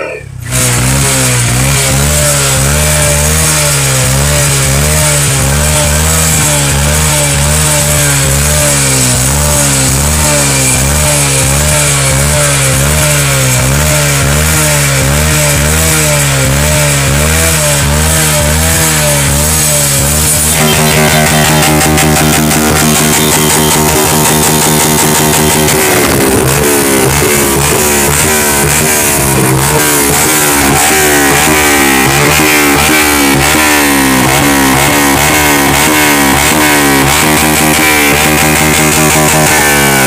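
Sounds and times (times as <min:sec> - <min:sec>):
motorcycle engine idling: 0:00.3 - 0:40.0.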